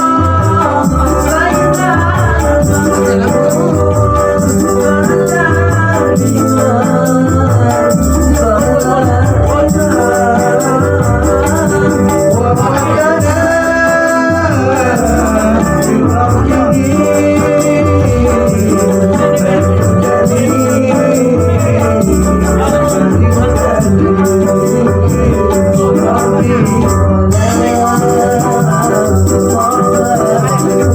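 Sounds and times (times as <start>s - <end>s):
hand drum percussion: 0.0s - 30.9s.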